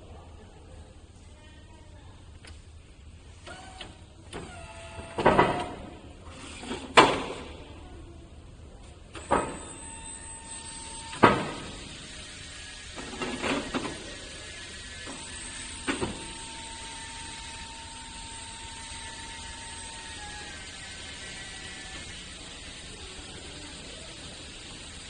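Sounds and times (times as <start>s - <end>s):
electric lift mechanism whining: 3.3s - 7.6s, 9.1s - 25.0s.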